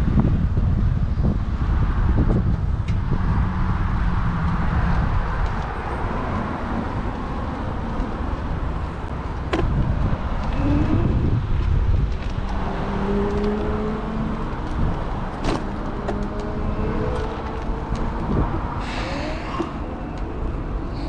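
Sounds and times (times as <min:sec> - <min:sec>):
road traffic passing: 0:00.0 - 0:21.0
wind buffeting microphone: 0:00.0 - 0:21.0.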